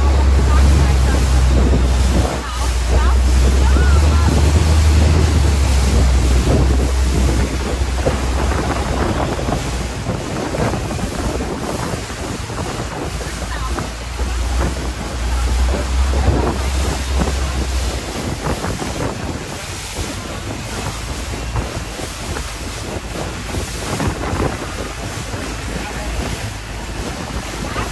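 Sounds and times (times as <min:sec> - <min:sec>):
water rushing along boat hull: 0:00.0 - 0:27.9
wind buffeting microphone: 0:00.0 - 0:27.9.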